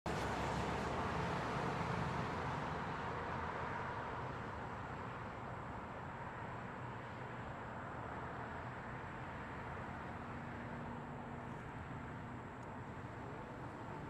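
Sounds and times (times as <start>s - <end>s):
road traffic noise: 0.1s - 14.0s.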